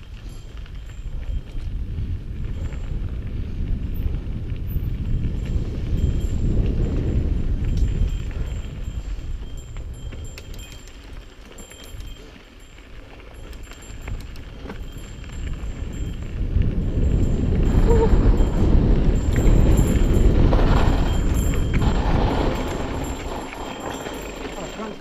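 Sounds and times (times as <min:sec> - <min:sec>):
bike tyre rumble on dirt: 0:00.0 - 0:25.0
wind buffeting microphone: 0:00.0 - 0:25.0.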